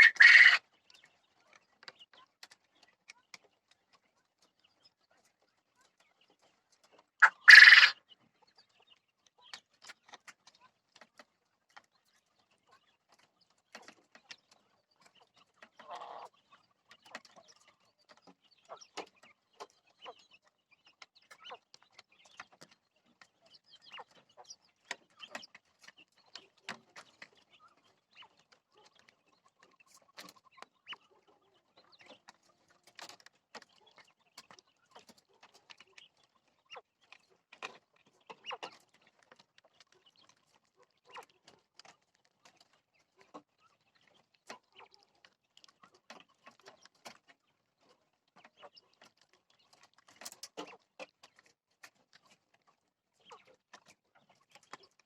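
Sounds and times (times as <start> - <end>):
quail calling and clucking: 0.0 - 55.0.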